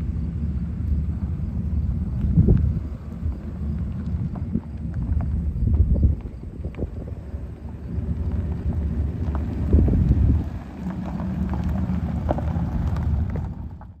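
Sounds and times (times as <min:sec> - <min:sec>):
tyres crunching on gravel: 0:00.0 - 0:14.0
stones popping under tyres: 0:00.2 - 0:14.0.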